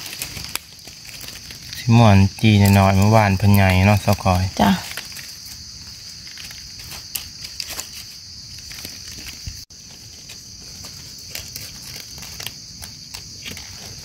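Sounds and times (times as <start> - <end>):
footsteps in dry leaves: 0.0 - 14.0
high-pitched insect chorus: 0.0 - 14.0.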